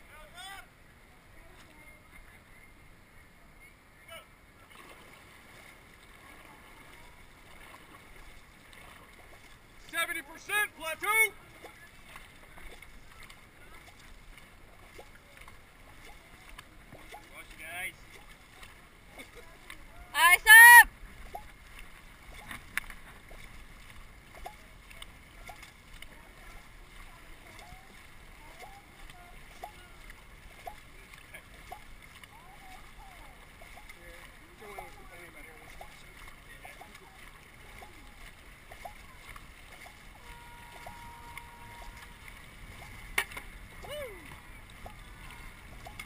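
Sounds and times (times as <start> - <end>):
water rushing along hull: 0.0 - 46.0
paddle strokes splashing: 4.5 - 46.0.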